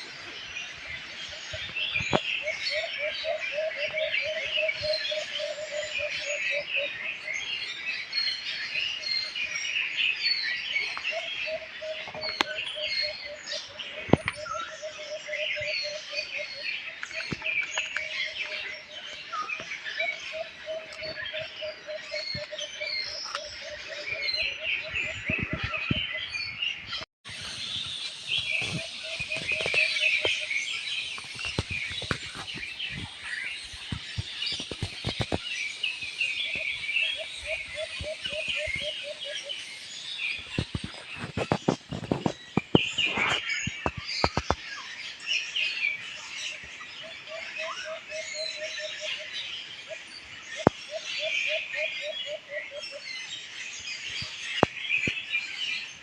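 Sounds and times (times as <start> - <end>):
birds chirping and whistling: 0.0 - 56.0.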